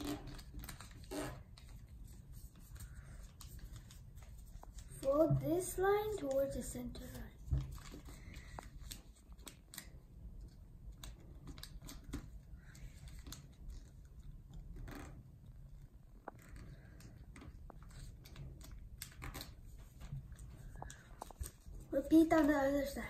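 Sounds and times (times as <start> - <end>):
paper rustling and creasing: 0.0 - 23.0.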